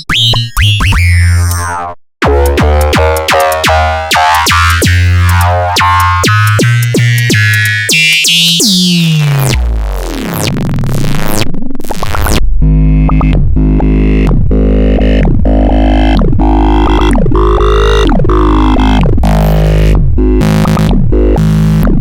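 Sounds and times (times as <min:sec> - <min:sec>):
deep bass line: 0:00.0 - 0:22.0
electronic music with synthesizer: 0:00.0 - 0:22.0.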